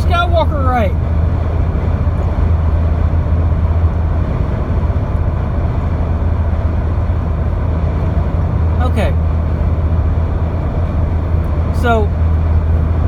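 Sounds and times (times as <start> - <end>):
deep hum: 0.0 - 13.0
low rumbling noise: 0.0 - 13.0.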